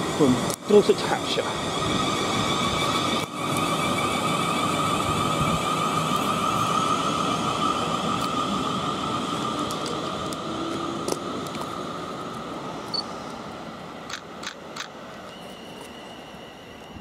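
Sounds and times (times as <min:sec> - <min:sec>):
train electric whine: 0:00.0 - 0:17.0
wheel and rail rumble: 0:00.0 - 0:17.0.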